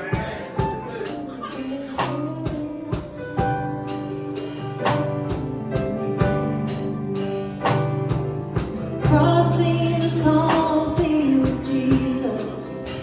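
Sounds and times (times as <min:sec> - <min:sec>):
drum kit steady beat: 0:00.0 - 0:13.0
worship band playing: 0:00.0 - 0:13.0.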